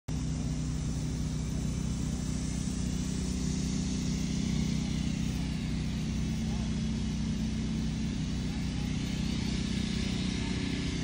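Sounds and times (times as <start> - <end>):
truck engine idling: 0.1 - 11.0.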